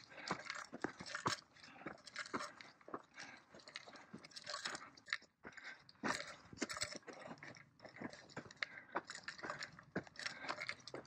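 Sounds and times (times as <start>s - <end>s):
crunchy food being chewed: 0.0s - 11.0s.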